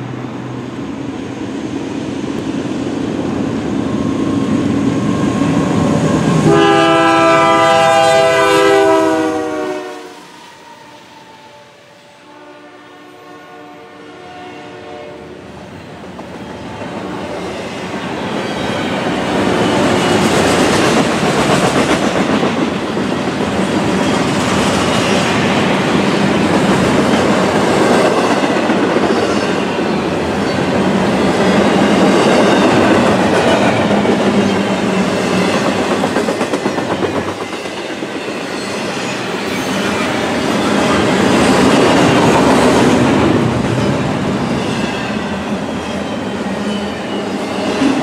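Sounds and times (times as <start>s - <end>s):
freight train wheels rumbling: 0.0s - 12.0s, 14.8s - 48.0s.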